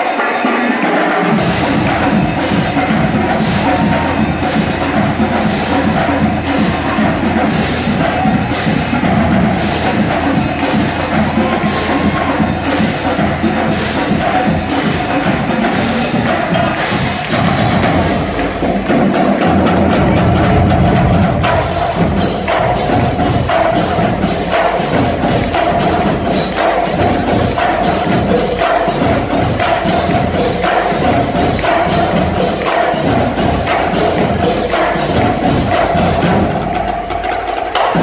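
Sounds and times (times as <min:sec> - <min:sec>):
snare drums: 0:00.0 - 0:38.0
bass drums: 0:01.3 - 0:38.0.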